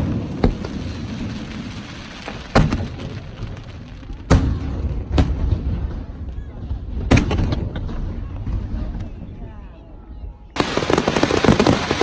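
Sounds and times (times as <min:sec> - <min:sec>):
fireworks bursting with bangs: 0:00.0 - 0:09.0, 0:10.6 - 0:12.0
rumble of fireworks display: 0:00.0 - 0:12.0.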